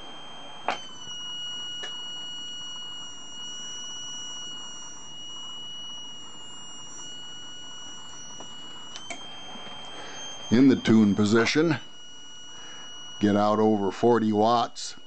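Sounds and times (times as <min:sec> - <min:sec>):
steady high-pitched whine: 0:00.0 - 0:15.0.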